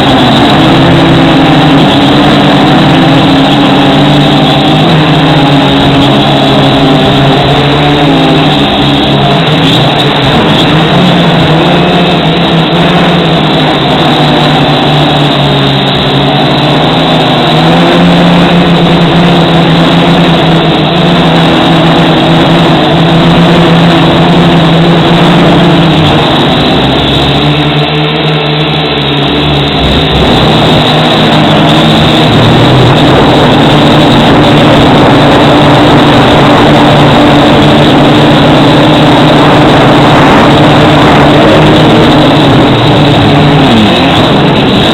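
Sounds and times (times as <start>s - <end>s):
motors humming: 0.0s - 44.9s
wind noise on microphone: 0.0s - 44.9s.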